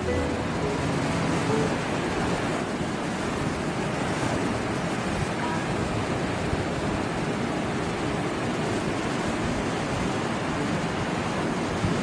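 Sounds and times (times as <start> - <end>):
sea surf breaking on beach: 0.0 - 12.0.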